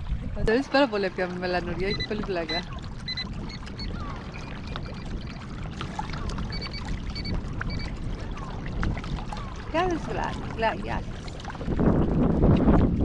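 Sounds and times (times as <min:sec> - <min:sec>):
water splashing against kayak hull: 0:00.0 - 0:13.0
wind buffeting microphone: 0:00.0 - 0:13.0.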